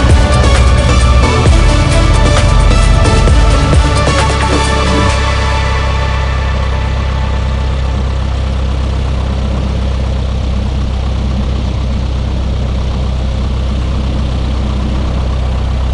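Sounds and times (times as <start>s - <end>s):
propeller plane engine droning: 0.0s - 15.9s.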